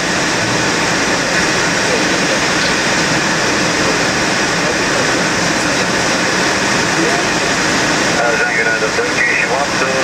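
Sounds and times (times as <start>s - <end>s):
airflow over cockpit: 0.0s - 10.0s
jet engines humming: 0.0s - 10.0s.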